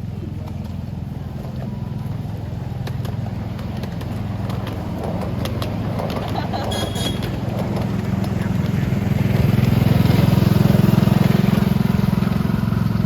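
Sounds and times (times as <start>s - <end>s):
railway carriage rumble: 0.0s - 13.0s.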